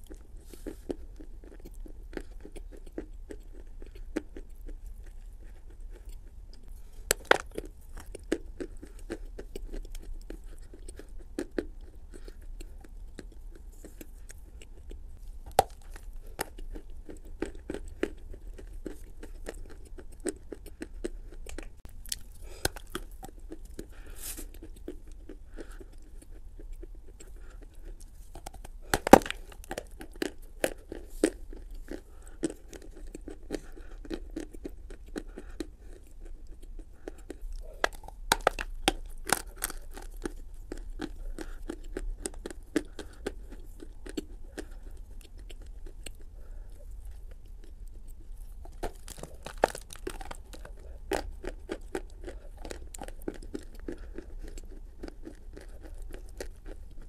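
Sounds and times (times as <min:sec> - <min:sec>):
wet sticky chewing: 0:00.0 - 0:57.0
crunching bites: 0:07.0 - 0:57.0.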